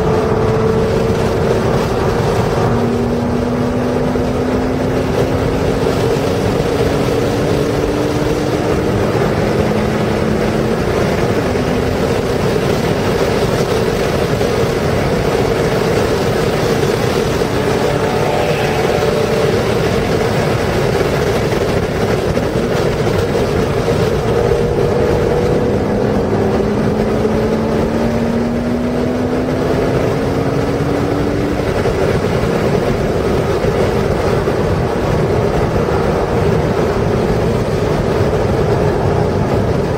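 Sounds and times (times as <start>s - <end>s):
car engine under throttle: 0.0s - 39.9s
wind noise: 0.0s - 39.9s.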